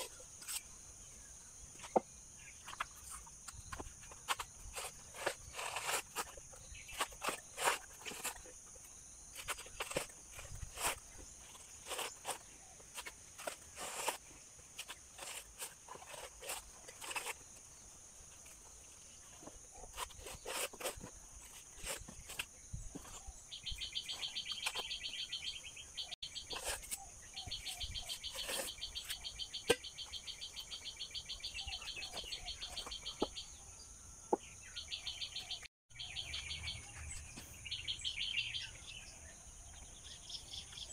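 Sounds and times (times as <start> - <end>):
steady high insect hum: 0.0 - 40.9.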